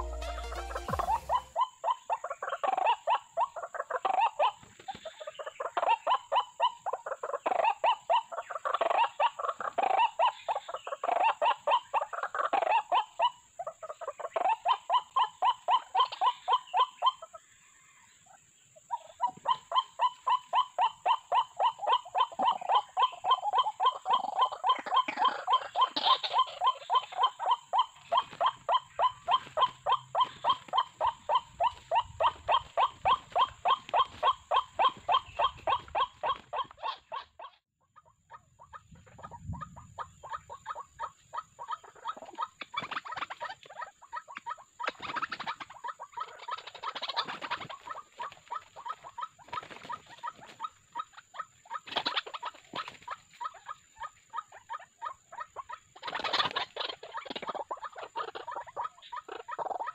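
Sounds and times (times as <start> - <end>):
waterhens calling: 0.0 - 17.4, 19.0 - 37.6, 38.6 - 59.9.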